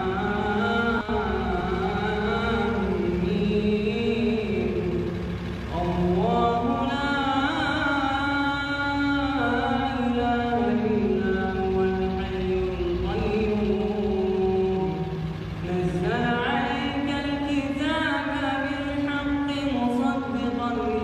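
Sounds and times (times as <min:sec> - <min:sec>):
man chanting recitation: 0:00.0 - 0:21.0
steady low rumble: 0:00.0 - 0:21.0.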